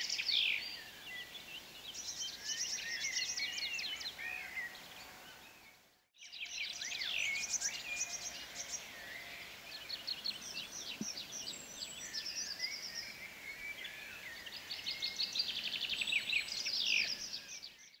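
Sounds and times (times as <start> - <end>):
small birds singing: 0.0 - 18.0.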